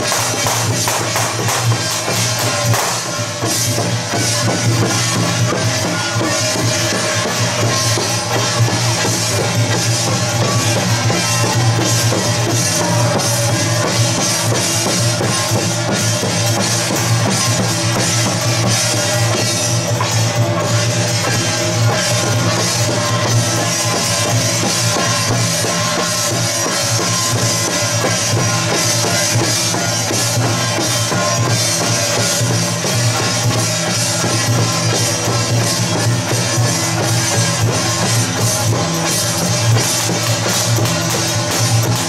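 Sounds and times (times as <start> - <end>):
gongs: 0.0 - 42.0
hand cymbals: 0.0 - 42.0
small drum beating: 0.0 - 42.0.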